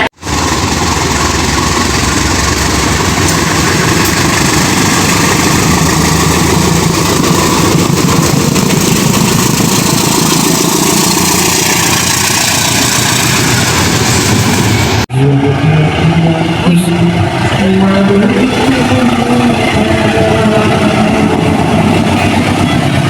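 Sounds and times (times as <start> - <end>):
dense rushing noise: 0.0 - 23.0
diesel locomotive engine drone: 0.0 - 23.0.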